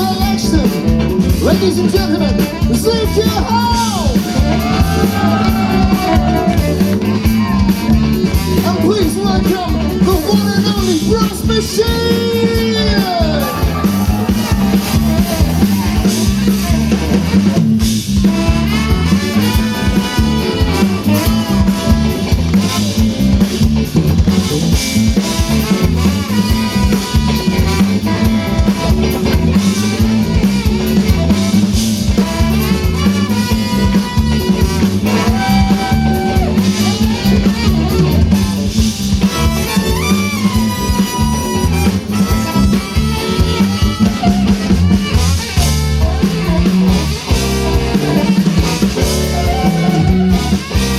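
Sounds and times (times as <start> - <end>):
bass: 0.0 - 50.9
brass band playing: 0.0 - 50.9
drum kit beat: 0.0 - 50.9.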